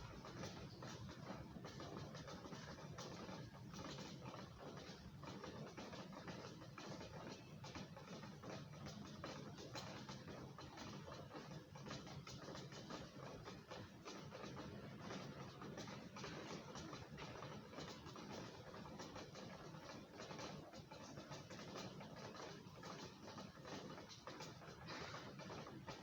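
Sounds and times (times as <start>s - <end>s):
faint rain pattering: 0.0s - 26.0s.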